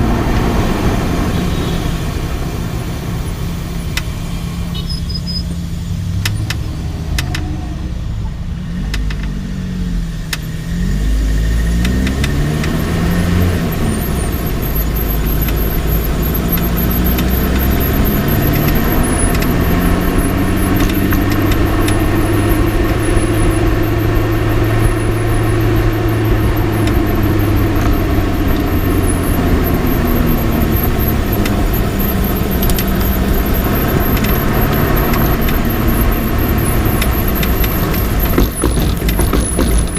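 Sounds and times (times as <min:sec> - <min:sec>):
road and tyre rumble: 0:00.0 - 0:39.9
suspension clicks: 0:03.8 - 0:07.6, 0:08.6 - 0:09.5, 0:10.2 - 0:39.9
car engine revving: 0:05.5 - 0:39.9.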